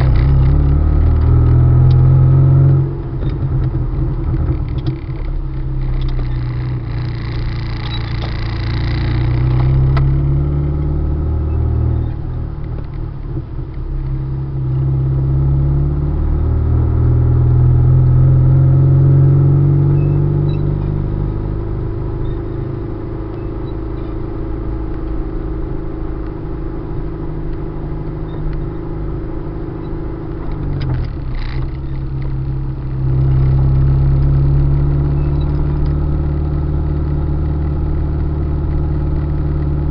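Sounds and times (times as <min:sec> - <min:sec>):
car engine while driving: 0:00.0 - 0:39.9
road noise: 0:00.0 - 0:39.9.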